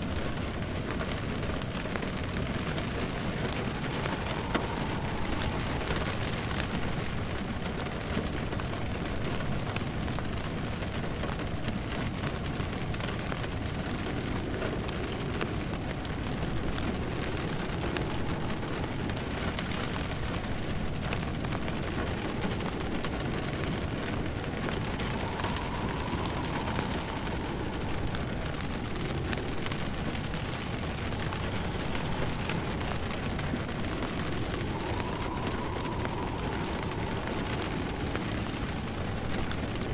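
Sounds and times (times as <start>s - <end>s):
faint wind howl: 0.0s - 39.9s
steady rain: 0.0s - 39.9s
wood fire crackling: 0.0s - 39.9s.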